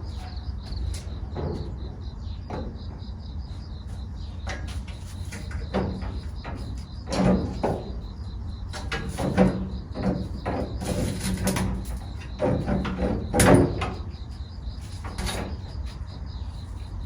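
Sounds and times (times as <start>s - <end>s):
knocks and clatter of hand work: 0.0s - 3.1s, 4.4s - 16.1s.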